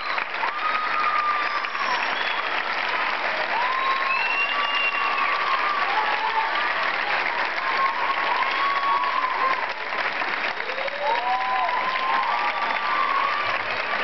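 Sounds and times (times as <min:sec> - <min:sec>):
audience applauding: 0:00.0 - 0:14.0
audience calls: 0:00.0 - 0:14.0.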